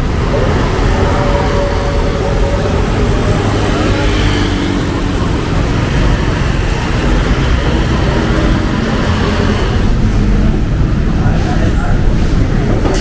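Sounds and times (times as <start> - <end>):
cars and motorcycles passing: 0.0 - 12.7
engine rumble and road noise: 0.0 - 13.0.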